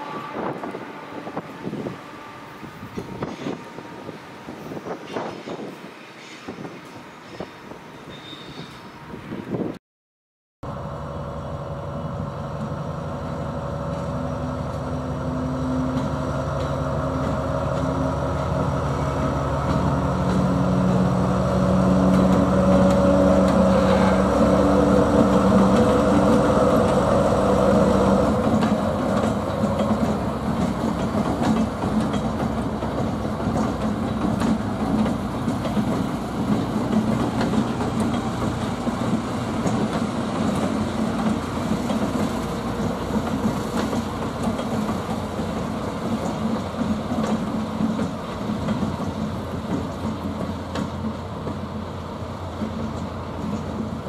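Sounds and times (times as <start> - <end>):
diesel locomotive engines: 0.0 - 9.8, 10.6 - 54.0
train wheels on track: 0.0 - 9.8, 10.7 - 54.0.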